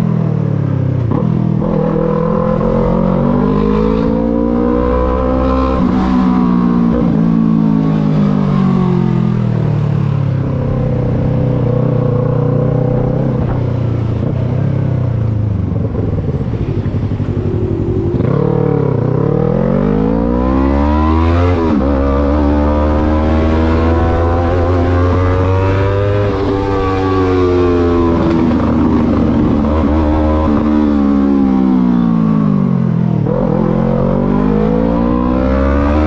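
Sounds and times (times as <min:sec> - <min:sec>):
motorcycle engine revving: 0:00.6 - 0:36.0.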